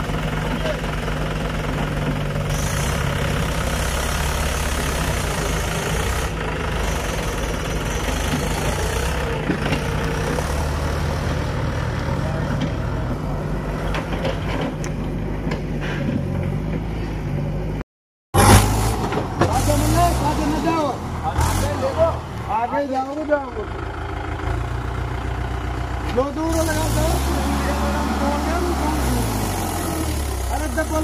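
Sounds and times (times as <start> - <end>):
tractor diesel engine running: 0.0 - 17.8, 18.4 - 31.0.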